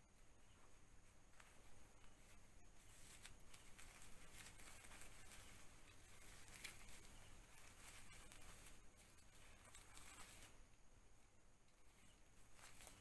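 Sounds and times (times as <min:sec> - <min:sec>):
diaper crinkling and rustling: 0:00.6 - 0:10.7, 0:11.9 - 0:13.0.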